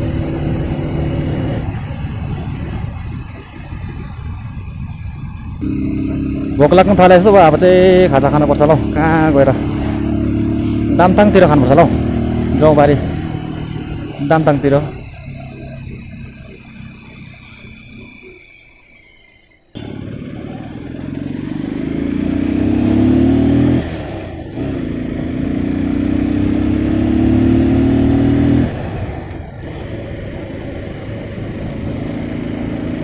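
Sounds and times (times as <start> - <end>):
motorcycle engine shifting gears: 0.0 - 33.0.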